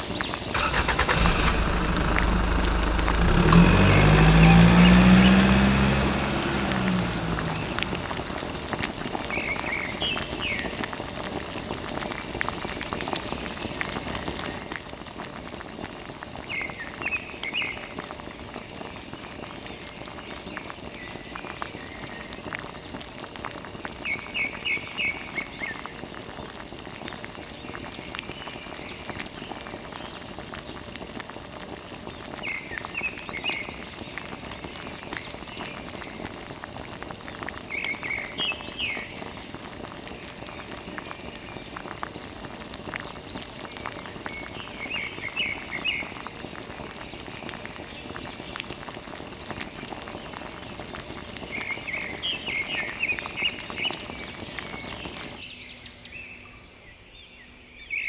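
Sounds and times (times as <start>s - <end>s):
water trickling and splashing: 0.0s - 55.4s.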